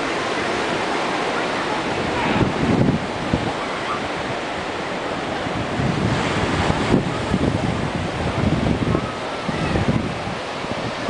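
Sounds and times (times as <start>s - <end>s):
ocean surf washing: 0.0s - 11.0s
wind buffeting microphone: 0.0s - 11.0s.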